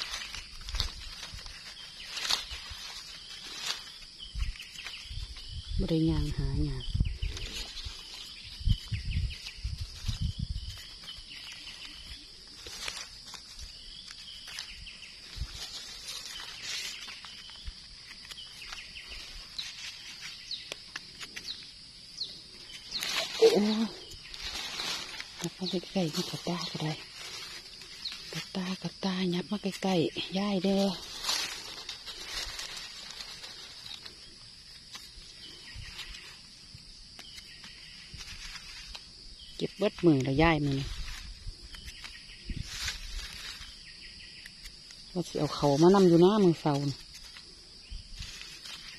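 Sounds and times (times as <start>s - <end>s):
dry leaves crackling and rustling: 0.0s - 48.9s
high-pitched insect drone: 0.0s - 48.9s.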